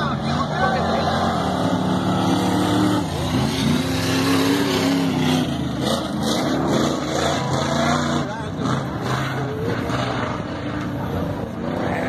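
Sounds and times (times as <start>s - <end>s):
race truck engines revving: 0.0s - 12.0s.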